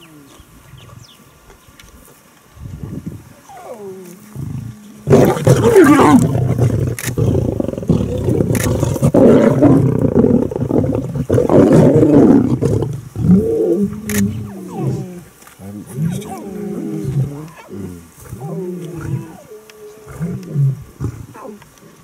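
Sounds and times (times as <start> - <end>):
lions snarling and growling: 3.4 - 22.0.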